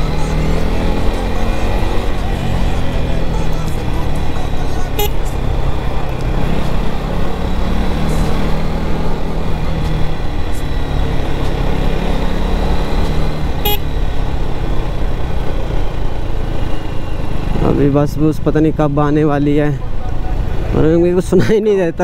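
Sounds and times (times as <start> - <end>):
motorcycle engine running: 0.0 - 21.2.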